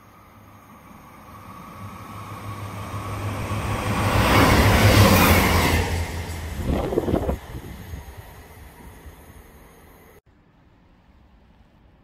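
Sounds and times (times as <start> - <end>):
diesel train engine drone: 0.0 - 11.5
wheels rushing on rail: 0.0 - 11.9.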